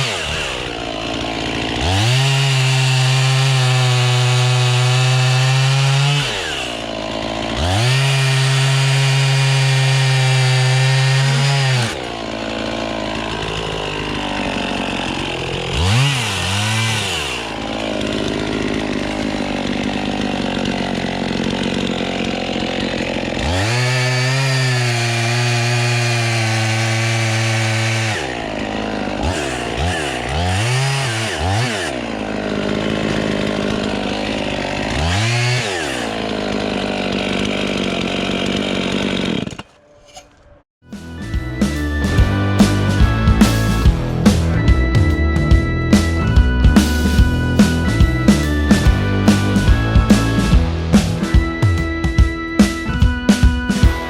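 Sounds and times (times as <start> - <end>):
chainsaw revving in blips: 0.0 - 40.0, 41.1 - 54.0
chainsaw cutting logs: 0.0 - 54.0.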